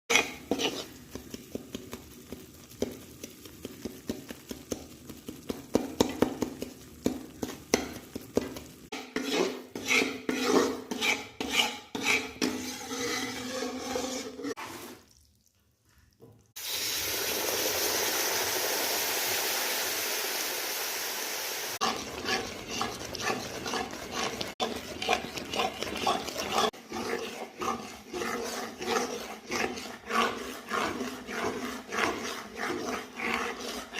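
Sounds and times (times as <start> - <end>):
spoon stirring in a metal pan: 0.1 - 15.2, 21.8 - 33.9.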